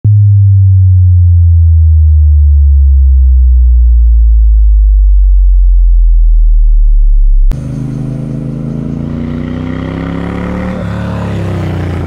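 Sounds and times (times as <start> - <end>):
low electronic tone sinking in pitch: 0.0 - 12.0.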